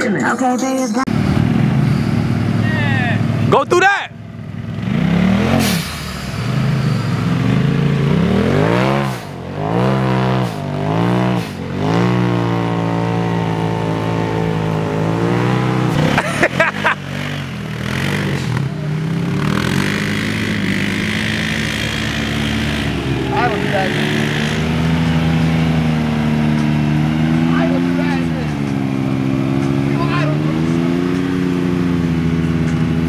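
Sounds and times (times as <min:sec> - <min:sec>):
utv engine revving: 0:01.1 - 0:33.0.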